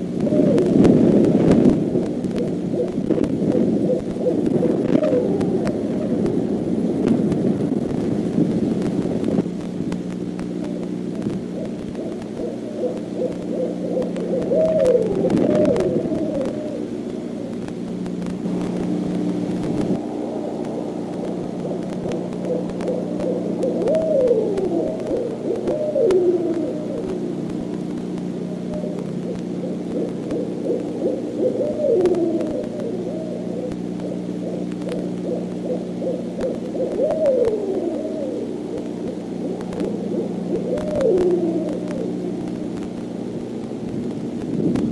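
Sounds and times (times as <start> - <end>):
wavering descending owl hoots: 0.0 - 9.4, 10.3 - 44.9
owls hooting: 0.0 - 44.9
steady low hum: 0.0 - 44.9.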